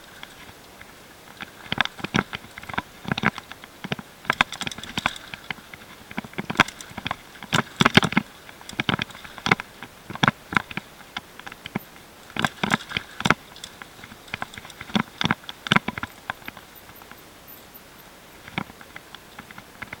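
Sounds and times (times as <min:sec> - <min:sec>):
mountain bike rattling on rocks: 0:00.0 - 0:17.3.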